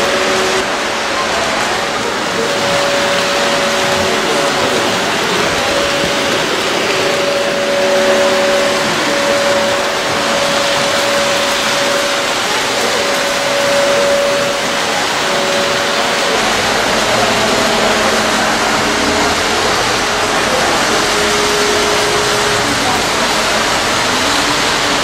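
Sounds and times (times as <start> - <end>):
faint motor whine: 0.0 - 25.0
model trains rushing noise: 0.0 - 25.0.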